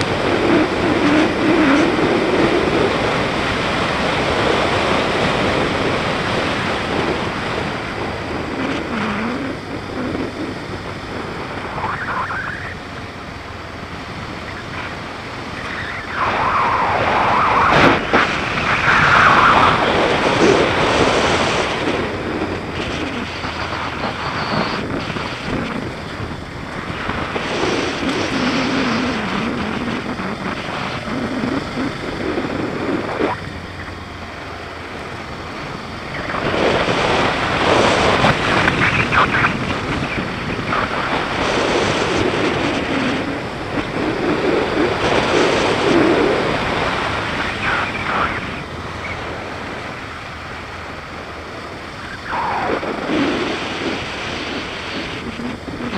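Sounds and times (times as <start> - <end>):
motorcycle engine running: 0.0 - 52.2
wind noise on microphone: 0.0 - 55.9.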